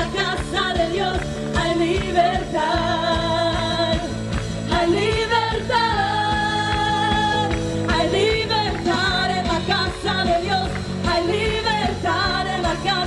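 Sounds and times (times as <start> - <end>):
worship band playing: 0.0 - 13.0.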